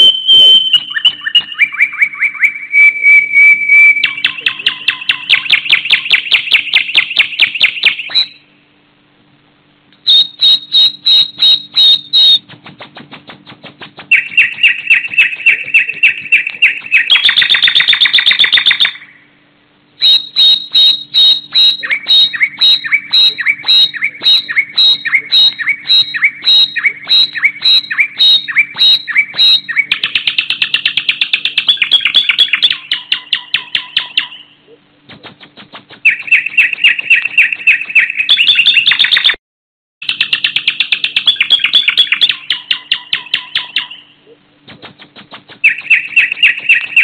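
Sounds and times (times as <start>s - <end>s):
nightingale singing: 0.0s - 8.6s, 10.0s - 12.5s, 14.1s - 19.4s, 20.0s - 34.8s, 36.0s - 39.4s, 40.0s - 44.9s, 45.6s - 47.0s.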